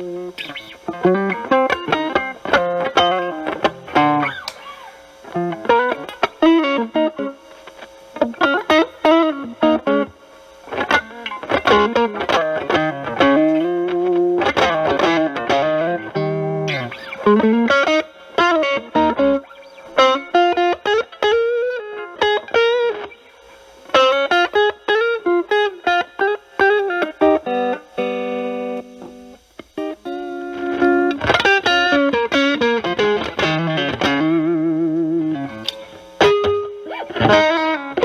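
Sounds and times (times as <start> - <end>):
distorted electric guitar lead: 0.0 - 38.0.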